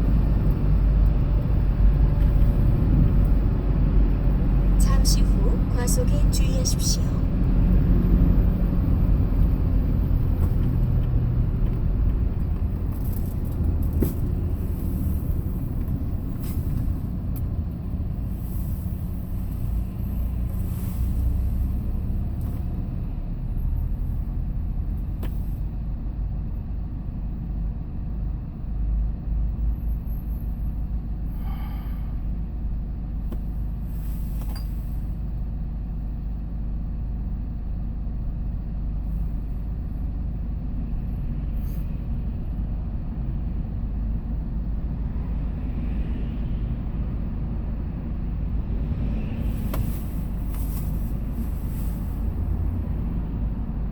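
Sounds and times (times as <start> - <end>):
truck engine and road noise: 0.0 - 53.9.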